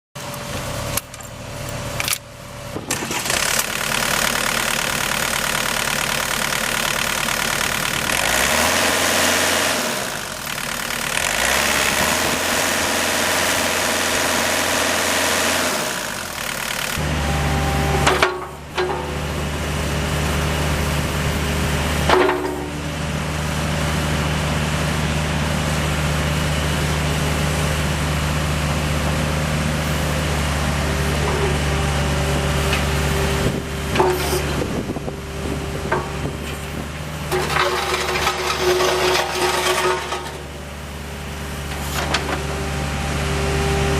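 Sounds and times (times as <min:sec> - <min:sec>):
diesel engine starting and idling: 0:00.2 - 0:43.9.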